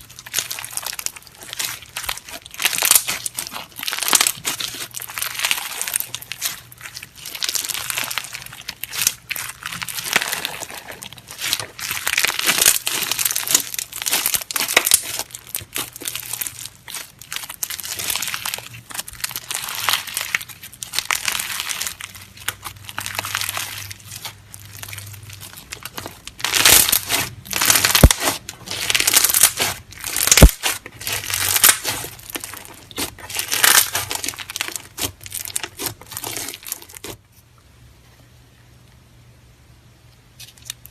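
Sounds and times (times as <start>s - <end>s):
slime crackling and popping: 0.0s - 37.2s.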